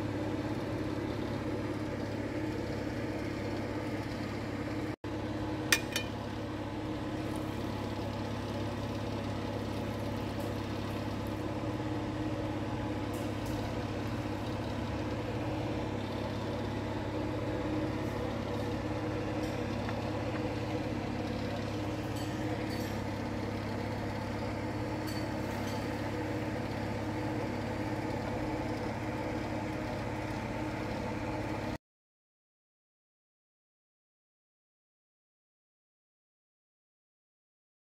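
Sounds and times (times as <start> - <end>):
steady mechanical hum: 0.0 - 31.8.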